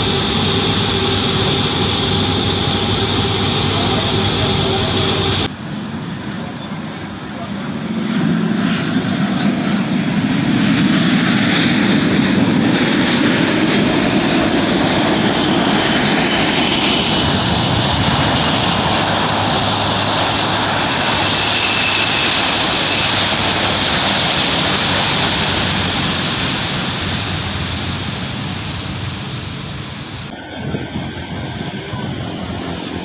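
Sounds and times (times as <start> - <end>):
high engine whine: 0.0 - 33.0
jet engines roaring: 0.0 - 33.0.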